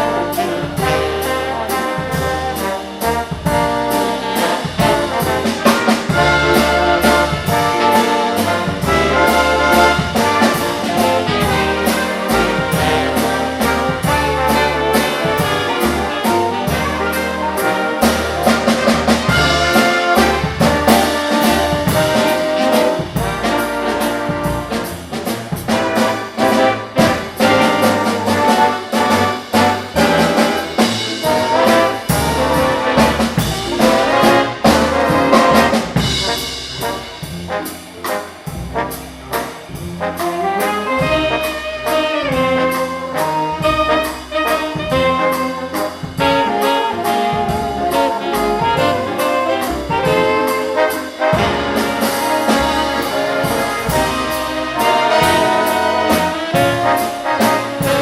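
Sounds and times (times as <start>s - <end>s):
big band playing: 0.0s - 58.0s
brass section: 0.0s - 58.0s.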